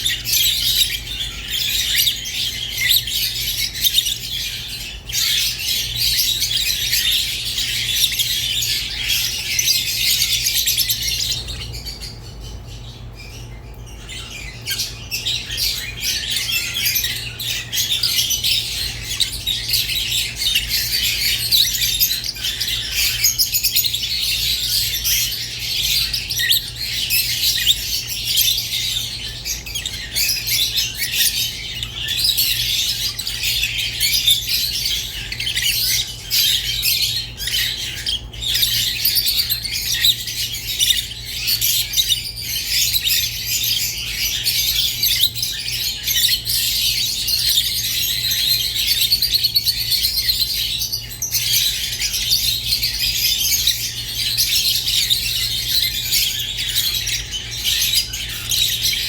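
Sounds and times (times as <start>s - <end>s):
lovebirds chirping and squawking: 0.0s - 59.0s.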